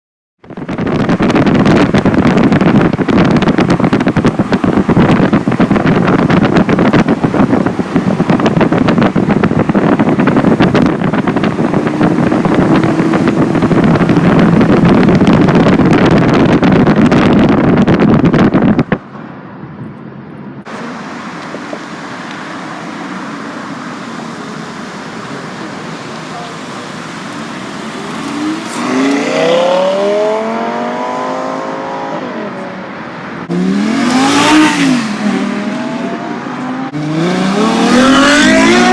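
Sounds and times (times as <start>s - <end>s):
traffic and car engines: 0.4s - 38.9s
wind buffeting microphone: 0.4s - 38.9s.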